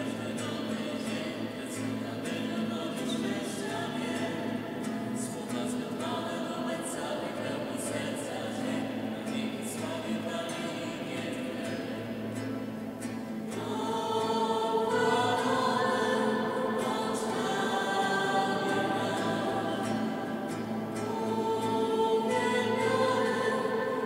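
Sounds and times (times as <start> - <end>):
acoustic guitar: 0.0 - 24.0
group singing a hymn: 0.0 - 24.0.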